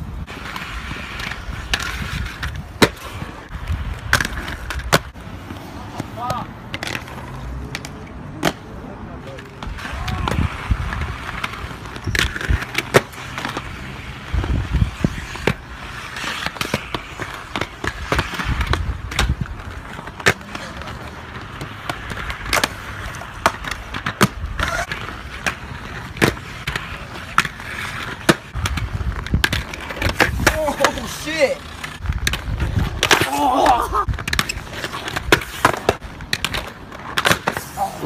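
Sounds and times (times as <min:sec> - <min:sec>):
skateboard wheels rolling on concrete: 0:00.0 - 0:38.0
skateboards clacking: 0:00.0 - 0:38.0.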